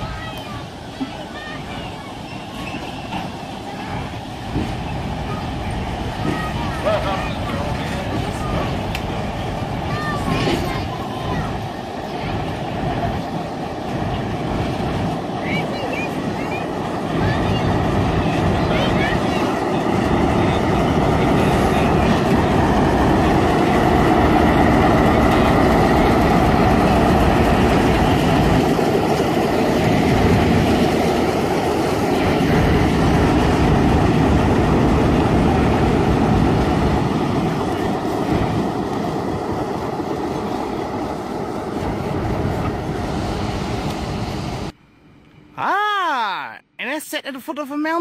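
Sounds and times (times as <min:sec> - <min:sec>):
train wheels rumbling on rails: 0:00.0 - 0:44.8.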